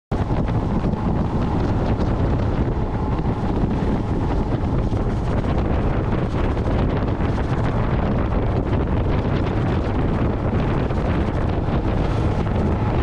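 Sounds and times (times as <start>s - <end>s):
water rushing along boat hull: 0.1s - 13.0s
wind buffeting microphone: 0.1s - 13.0s.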